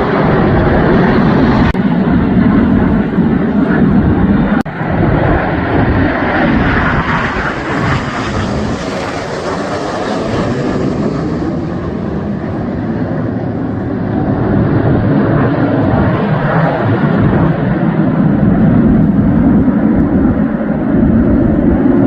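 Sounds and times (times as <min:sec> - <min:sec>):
jets flying past roaring: 0:00.0 - 0:22.0.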